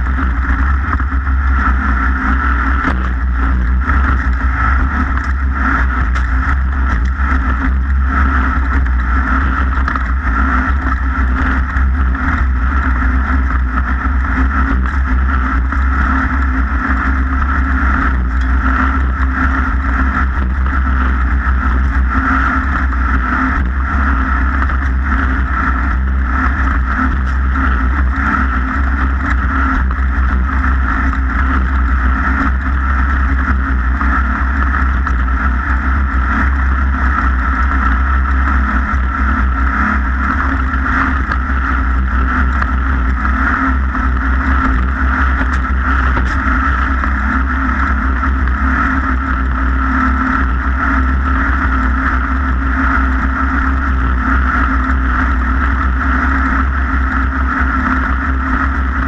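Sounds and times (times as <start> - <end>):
engine running steadily: 0.0 - 59.0
low rumble: 0.0 - 59.0.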